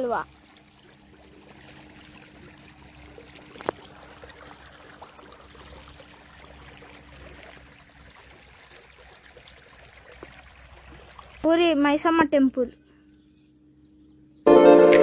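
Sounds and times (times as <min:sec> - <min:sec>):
water trickling in a channel: 0:00.0 - 0:12.2.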